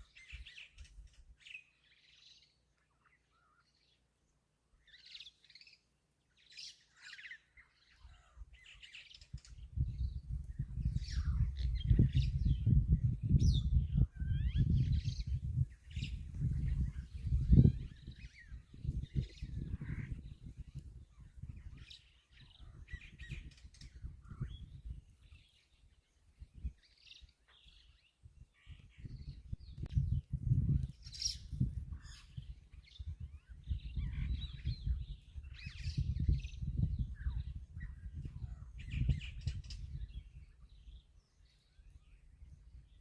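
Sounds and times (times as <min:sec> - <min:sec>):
birds calling: 0:00.0 - 0:30.2, 0:30.8 - 0:43.0.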